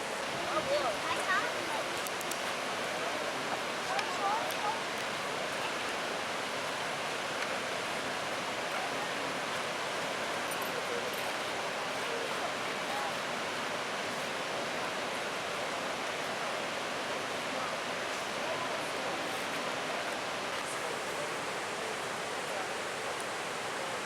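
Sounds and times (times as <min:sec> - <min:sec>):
white water rushing: 0:00.0 - 0:24.0.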